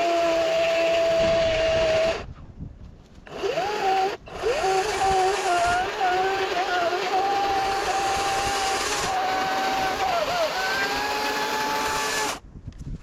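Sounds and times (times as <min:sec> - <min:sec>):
electric chainsaw cutting wood: 0:00.0 - 0:02.3, 0:03.3 - 0:12.4.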